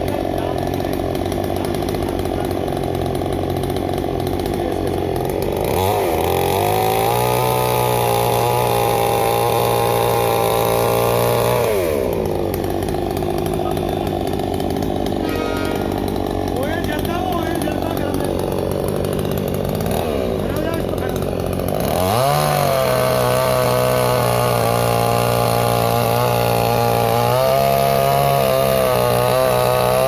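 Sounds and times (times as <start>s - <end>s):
chainsaw idling and revving: 0.0s - 30.0s.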